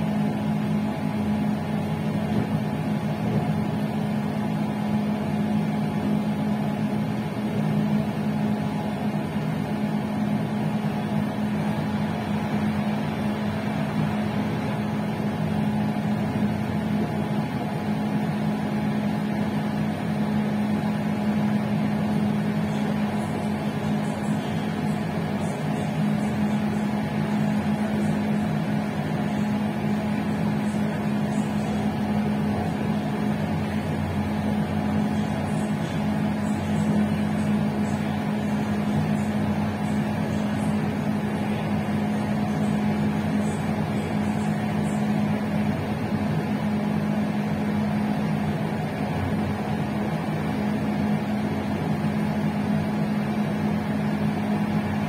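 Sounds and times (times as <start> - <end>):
train rolling hum: 0.0 - 55.0.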